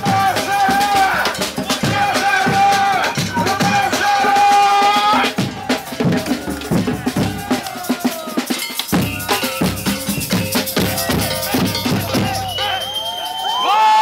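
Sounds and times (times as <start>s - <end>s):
rhythmic drumming and percussion: 0.0s - 14.0s.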